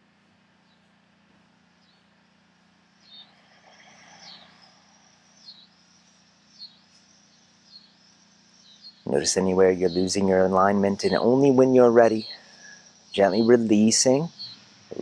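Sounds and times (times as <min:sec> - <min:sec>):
high insect buzz: 0:00.6 - 0:15.0
bird chirping: 0:02.9 - 0:15.0.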